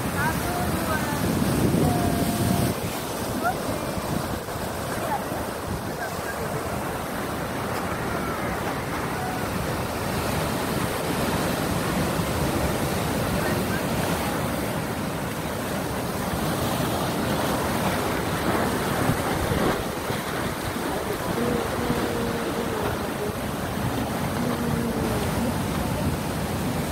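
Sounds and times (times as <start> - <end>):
surf breaking on rocks: 0.0 - 26.9.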